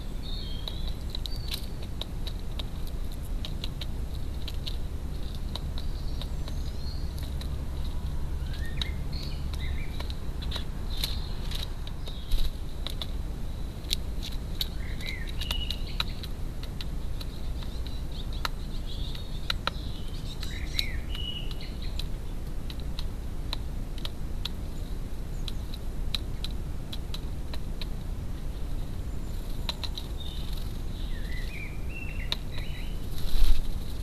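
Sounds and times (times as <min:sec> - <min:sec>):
woodpecker tapping on plastic: 0:00.6 - 0:13.2, 0:13.8 - 0:24.8, 0:25.4 - 0:28.1, 0:29.5 - 0:32.9.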